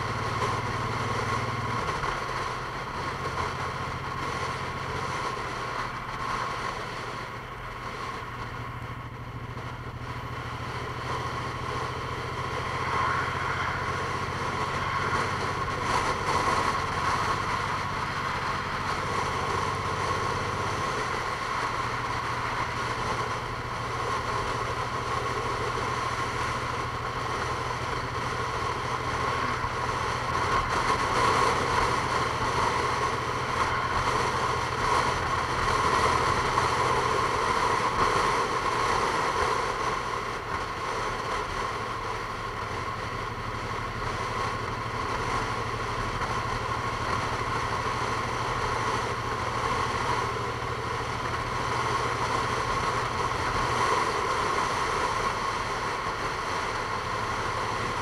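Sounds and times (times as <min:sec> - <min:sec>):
constant whine: 0:00.0 - 0:58.0
vehicle engine hum: 0:00.0 - 0:58.0.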